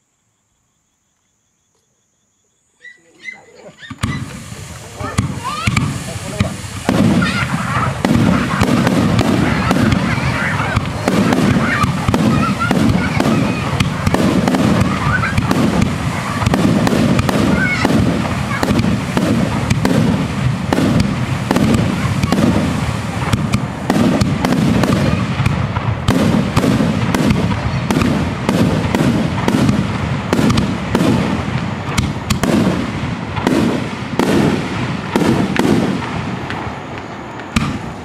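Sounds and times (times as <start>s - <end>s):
firework shells bursting: 3.8s - 38.0s
rumbling echo from mountains: 4.4s - 38.0s.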